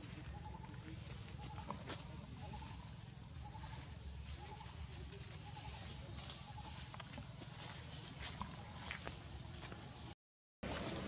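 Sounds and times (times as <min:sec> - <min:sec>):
faint chirps: 0:00.0 - 0:10.2
insect hiss: 0:00.0 - 0:11.0.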